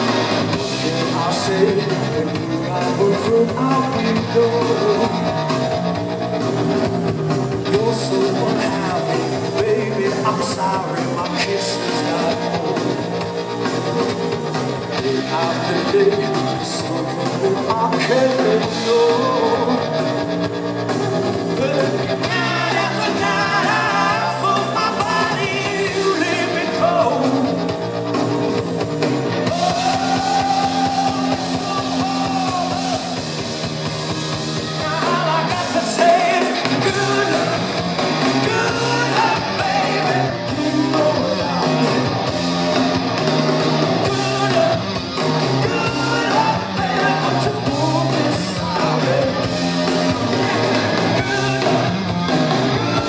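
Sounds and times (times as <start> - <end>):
live rock band playing: 0.0 - 53.0
person singing: 0.6 - 6.0, 7.6 - 20.5, 21.5 - 27.9, 29.3 - 33.2, 34.6 - 42.7, 43.8 - 53.0.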